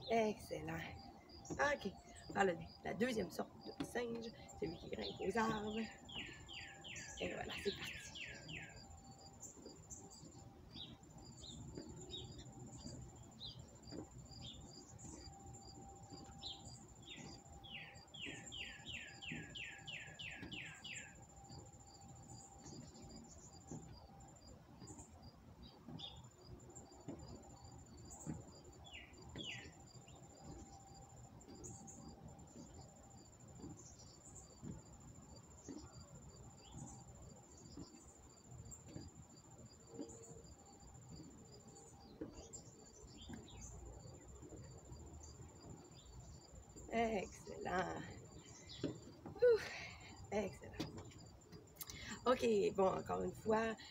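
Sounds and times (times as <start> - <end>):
birds chirping: 0.0 - 24.1, 24.8 - 53.9.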